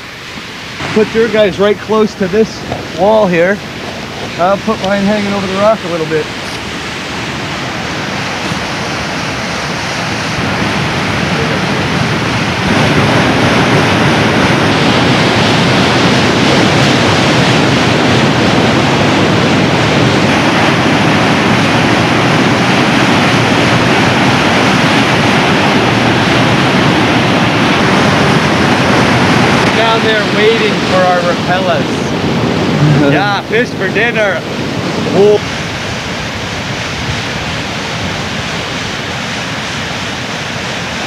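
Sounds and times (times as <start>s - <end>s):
water rushing over rock: 0.0s - 41.0s.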